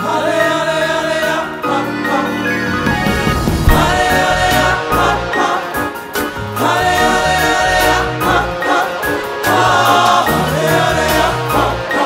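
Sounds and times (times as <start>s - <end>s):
gospel group singing: 0.0s - 12.0s
instrumental backing with bass: 1.8s - 11.8s.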